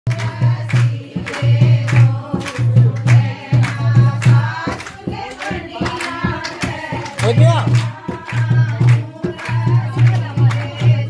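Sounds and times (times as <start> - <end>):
loud drum beat: 0.1 - 11.0
women singing: 0.1 - 11.0.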